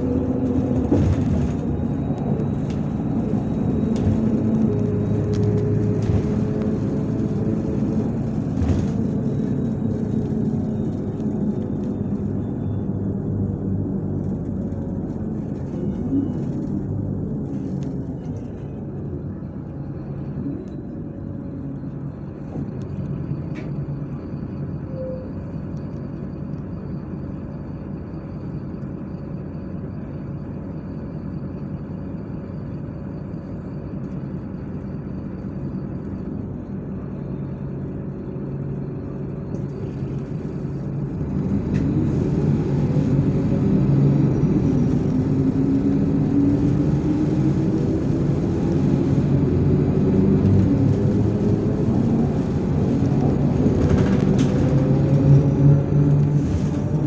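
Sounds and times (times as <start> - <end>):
bus diesel engine hum: 0.0 - 57.0
road noise: 0.0 - 57.0.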